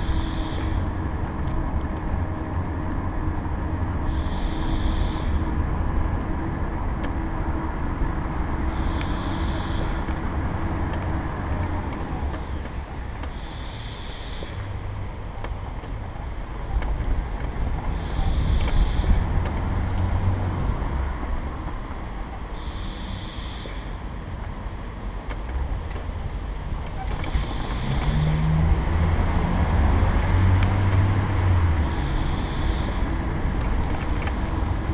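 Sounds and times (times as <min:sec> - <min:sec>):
wheels rolling over tarmac: 0:00.0 - 0:13.4, 0:14.4 - 0:22.6, 0:24.2 - 0:34.9.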